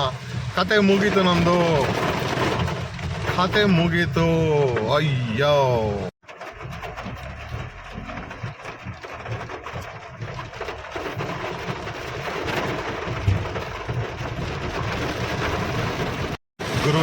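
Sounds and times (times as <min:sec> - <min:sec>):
car driving rumble: 0:00.0 - 0:17.0
rain on car roof: 0:00.0 - 0:17.0.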